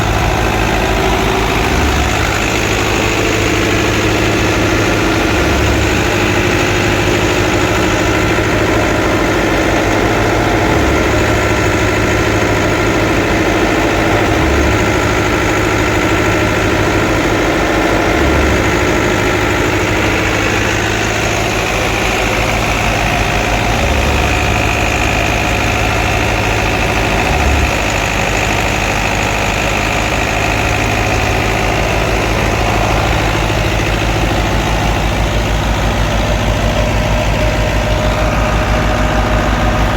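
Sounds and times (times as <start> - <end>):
thresher mechanical whir: 0.0 - 39.9
tractor diesel engine running: 0.0 - 39.9.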